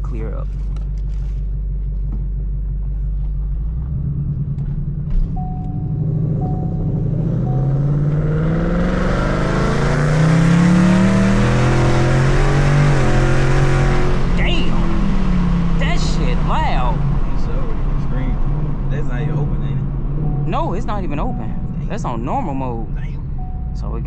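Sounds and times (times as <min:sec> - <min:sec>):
car engine pulling away: 0:00.0 - 0:24.0.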